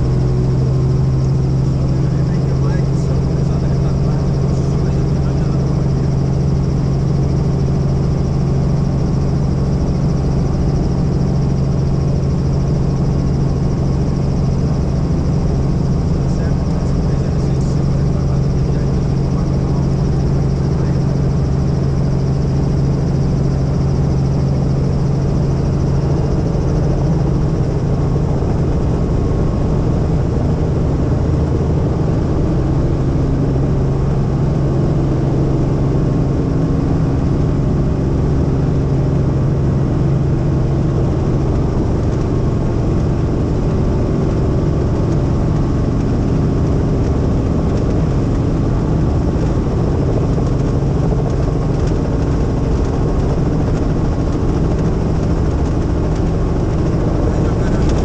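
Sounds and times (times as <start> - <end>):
helicopter drone: 0.0 - 58.0.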